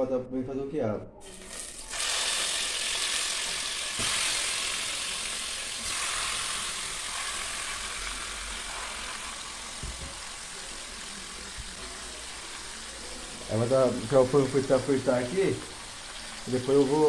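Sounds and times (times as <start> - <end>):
chicken sizzling in a pot: 1.2 - 17.0.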